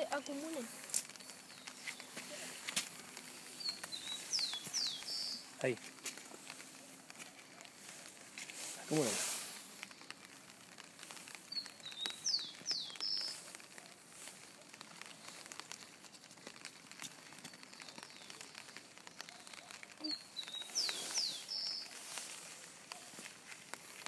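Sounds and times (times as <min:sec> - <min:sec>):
songbird singing: 0:00.0 - 0:15.8, 0:17.2 - 0:23.2
light rain pattering: 0:00.0 - 0:24.0.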